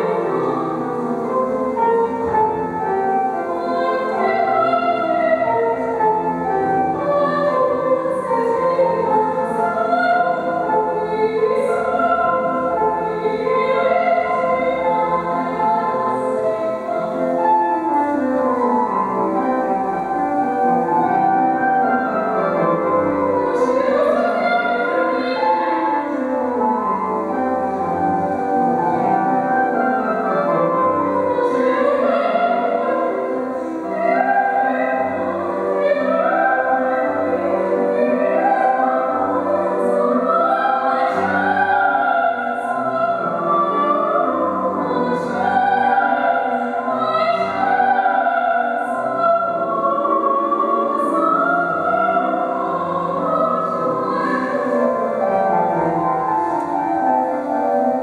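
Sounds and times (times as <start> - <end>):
opera singing: 0.0 - 56.0
piano accompaniment: 0.0 - 58.0.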